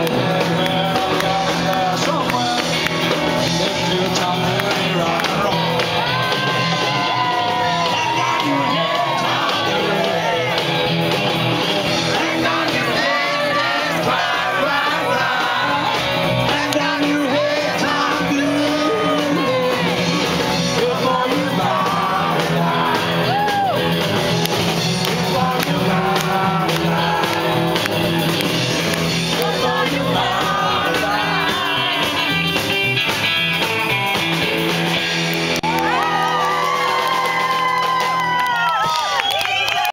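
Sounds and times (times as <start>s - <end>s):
crowd singing and shouting: 0.0s - 39.9s
live band music: 0.0s - 39.9s.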